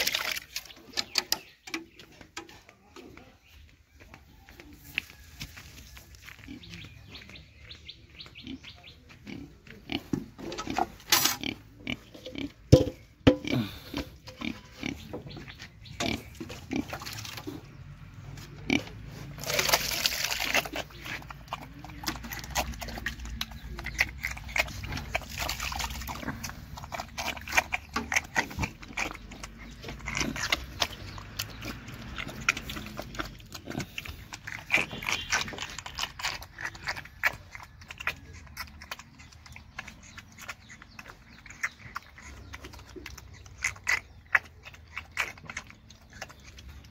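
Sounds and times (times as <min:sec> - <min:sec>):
piglet chomping and slurping: 0:00.0 - 0:02.4, 0:08.6 - 0:46.9.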